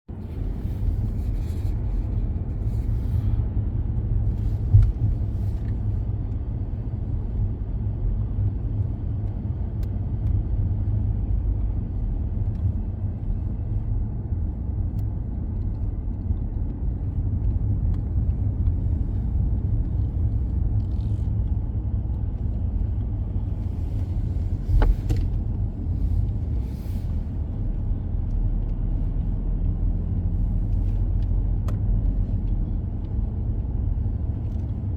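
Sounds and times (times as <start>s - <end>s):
tyres and engine rumble: 0.1s - 34.9s.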